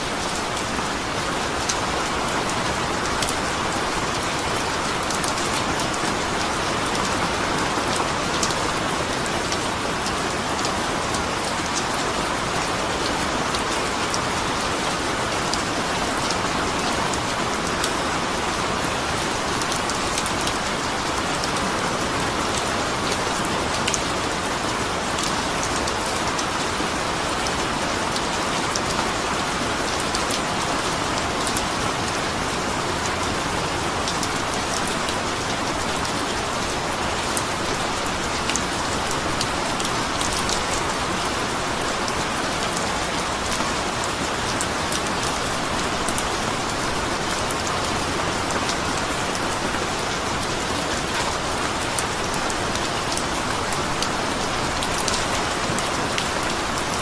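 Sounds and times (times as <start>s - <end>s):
rain falling on a surface: 0.0s - 57.0s.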